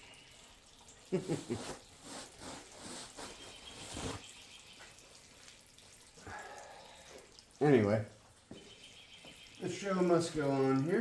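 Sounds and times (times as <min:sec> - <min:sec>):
fluid dripping and splashing: 0:00.0 - 0:11.0.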